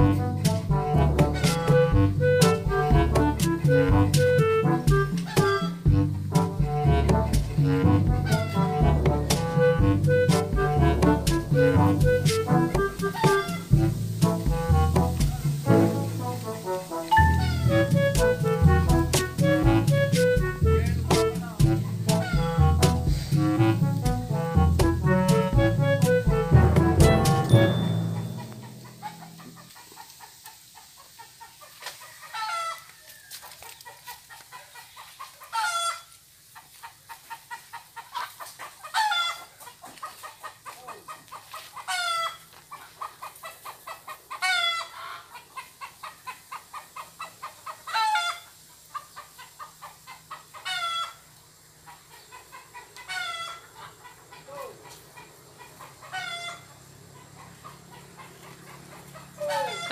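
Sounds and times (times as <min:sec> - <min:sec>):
chicken cackling: 0:00.0 - 0:59.9.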